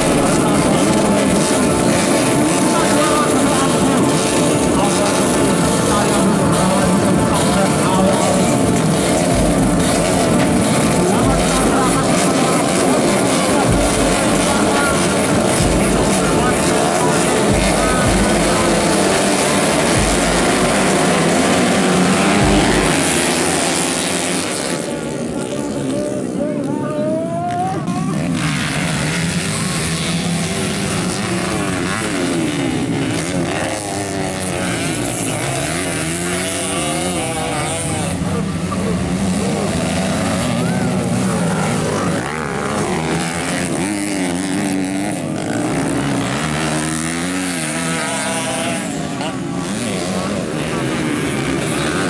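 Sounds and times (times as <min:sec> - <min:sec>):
dirt bikes accelerating: 0:00.0 - 0:52.0.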